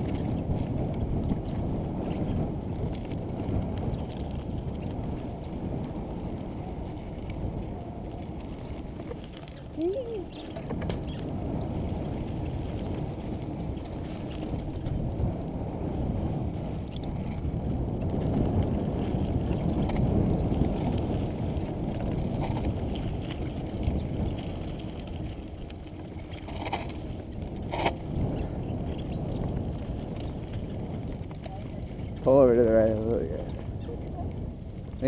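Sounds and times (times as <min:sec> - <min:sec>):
mountain bike rolling on dirt: 0:00.0 - 0:35.0
wind buffeting microphone: 0:00.0 - 0:35.0.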